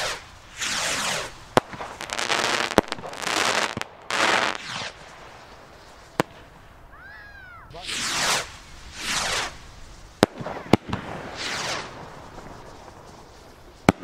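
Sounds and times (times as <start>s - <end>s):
firework bangs: 0.0s - 14.0s
firework rockets whooshing: 0.0s - 14.0s.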